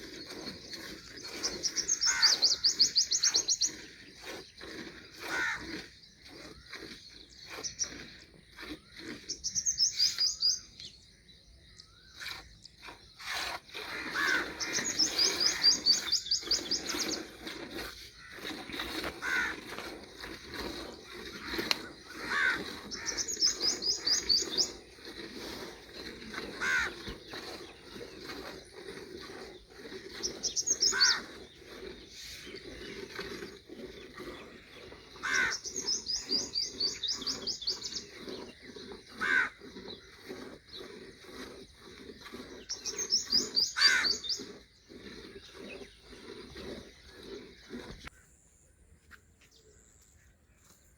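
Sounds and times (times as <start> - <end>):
birds twittering: 0.0 - 50.9.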